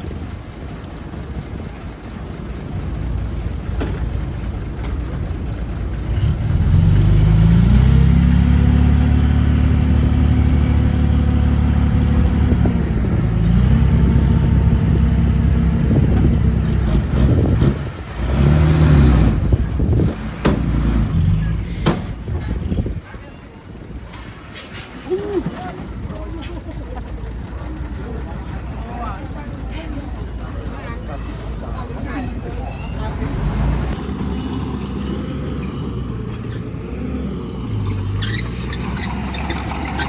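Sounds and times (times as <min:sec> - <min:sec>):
heavy diesel engine revving: 0:00.0 - 0:23.0, 0:30.6 - 0:40.0.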